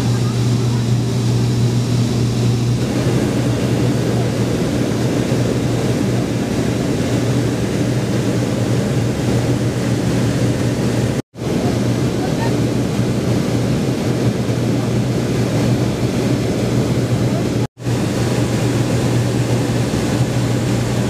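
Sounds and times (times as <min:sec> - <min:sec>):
aircraft engine drone in cabin: 0:00.0 - 0:21.0.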